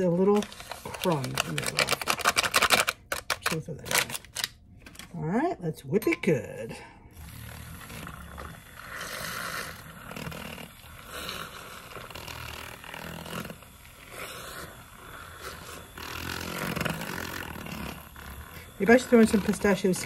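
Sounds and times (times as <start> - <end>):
milk frother motor buzz: 0.0 - 4.4, 7.1 - 20.0.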